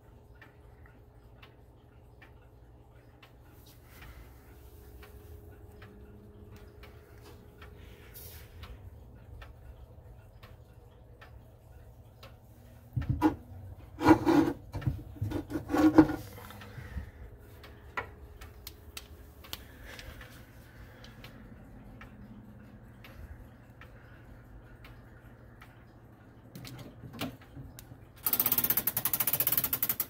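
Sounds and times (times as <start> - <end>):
clock ticking: 0.0 - 30.0.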